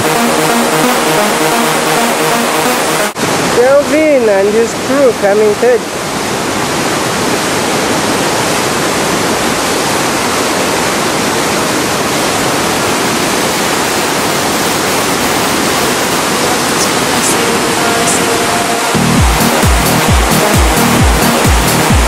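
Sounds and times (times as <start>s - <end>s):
white-water rapids rushing: 0.0s - 22.0s.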